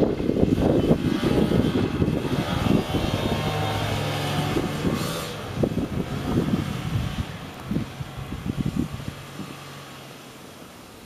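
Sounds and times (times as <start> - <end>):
wind gusting on microphone: 0.0 - 10.2
engine hum: 0.0 - 11.0.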